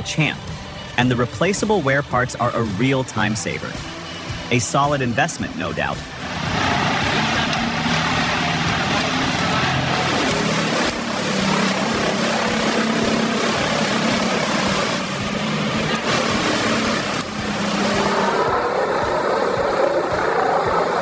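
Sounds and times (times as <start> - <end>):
heavy machinery engine running: 0.0 - 21.0.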